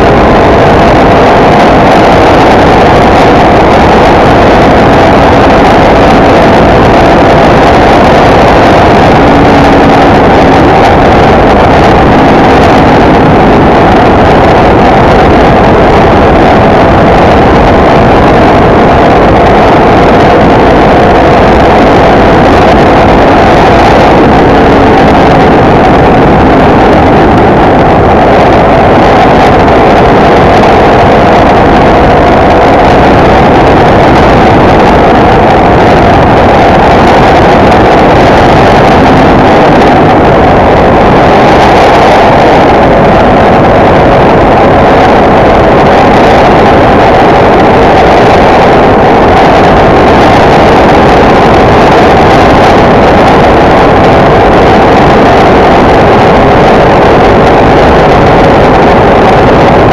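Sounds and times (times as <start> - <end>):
motorcycle engine drone: 0.0 - 59.9
wind rush on microphone: 0.0 - 59.9.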